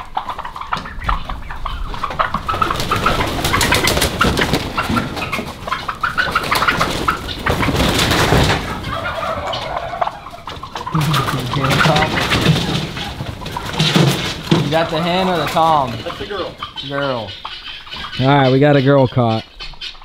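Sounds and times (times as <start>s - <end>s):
wings flapping: 0.0s - 18.3s
birds scuffling: 0.0s - 20.0s
turkeys calling: 0.0s - 20.0s.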